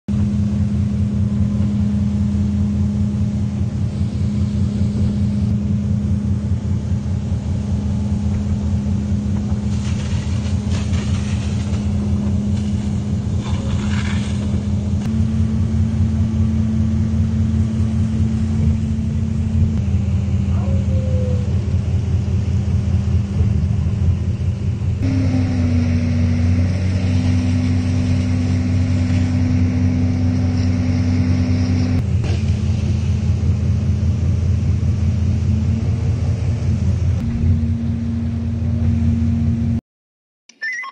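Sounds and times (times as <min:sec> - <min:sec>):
boat engine humming: 0:00.1 - 0:39.8.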